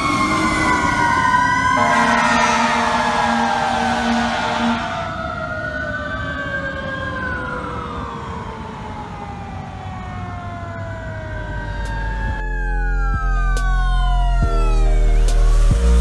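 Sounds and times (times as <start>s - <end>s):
fire truck engine running: 0.0s - 15.2s
fire engine siren wailing: 0.0s - 16.0s.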